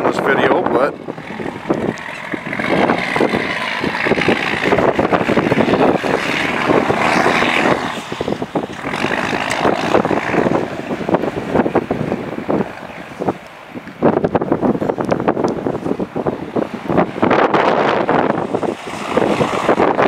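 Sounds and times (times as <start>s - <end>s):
truck diesel engine running: 0.0s - 20.0s
wind buffeting microphone: 0.0s - 20.0s.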